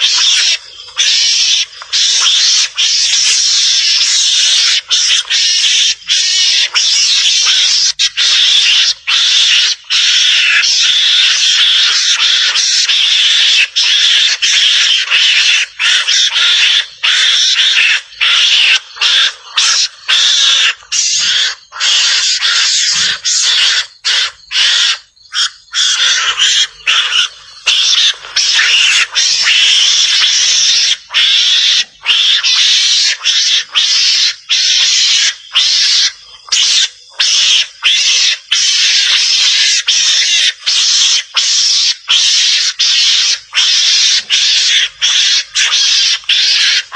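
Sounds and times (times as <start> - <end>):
mongoose raspy chatter: 0.0 - 46.9.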